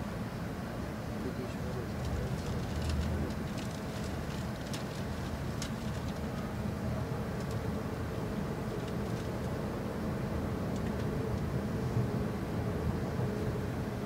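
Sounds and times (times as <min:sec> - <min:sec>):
train running rumble: 0:01.6 - 0:13.8.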